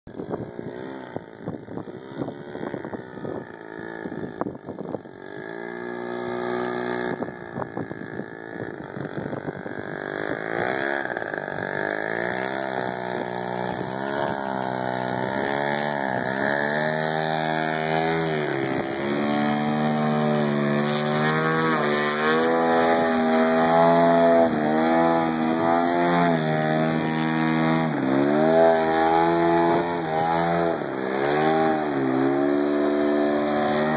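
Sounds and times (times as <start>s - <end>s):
model plane engine revving: 0.1s - 33.9s.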